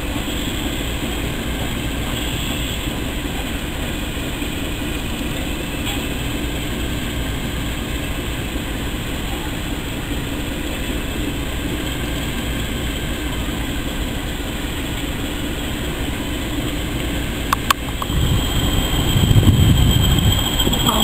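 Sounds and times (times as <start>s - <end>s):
locomotives rumbling: 0.0s - 21.0s.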